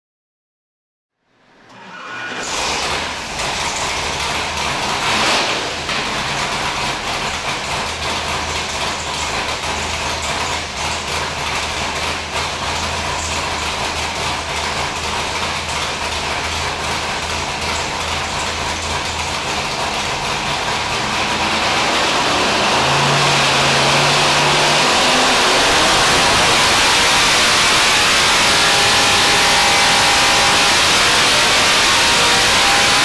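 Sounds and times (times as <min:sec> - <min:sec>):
engine idling: 0:02.5 - 0:33.0.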